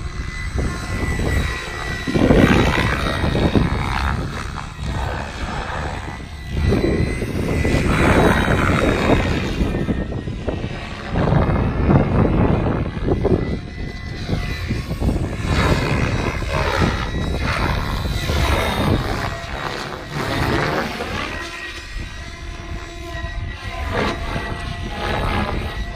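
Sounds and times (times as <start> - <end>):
faint high whine: 0.0 - 25.9
helicopter rotor blades whooshing: 0.0 - 25.9.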